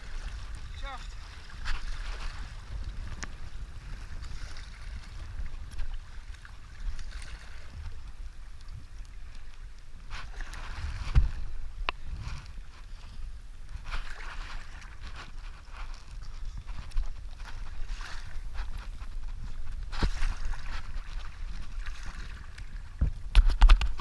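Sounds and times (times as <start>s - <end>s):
paddle strokes in water: 0.0s - 24.0s
river water splashing: 0.0s - 24.0s
wind buffeting microphone: 0.0s - 24.0s.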